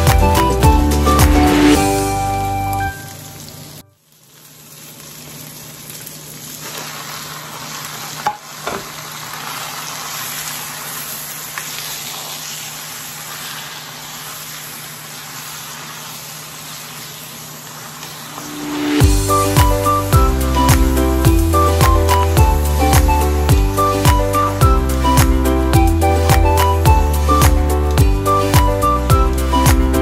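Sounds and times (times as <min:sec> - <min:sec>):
food sizzling in a hot wok: 0:01.0 - 0:25.1.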